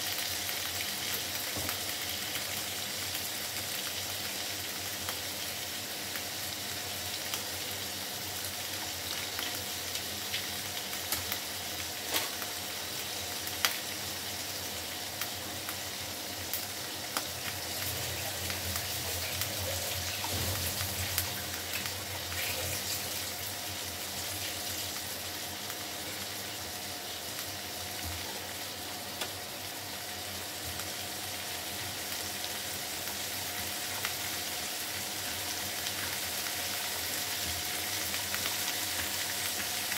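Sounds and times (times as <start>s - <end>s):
vegetables sizzling in hot oil: 0.0s - 39.9s.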